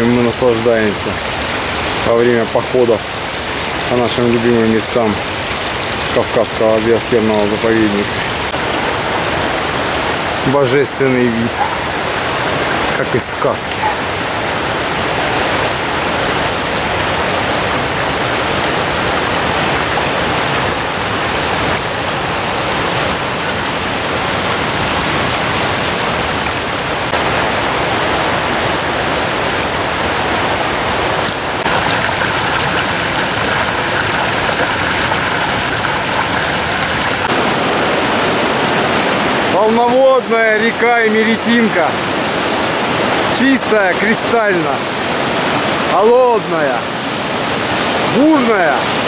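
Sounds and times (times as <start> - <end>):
stream rushing over rocks: 0.0 - 49.0
turbulent river rushing: 0.0 - 49.0.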